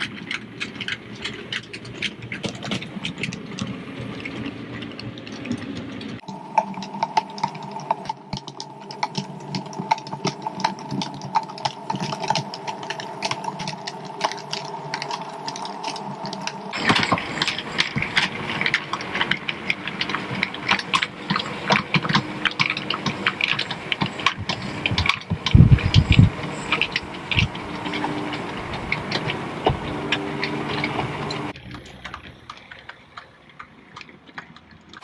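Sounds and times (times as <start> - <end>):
model train motor hum: 0.0 - 33.3
wheels clicking on rails: 0.0 - 35.0.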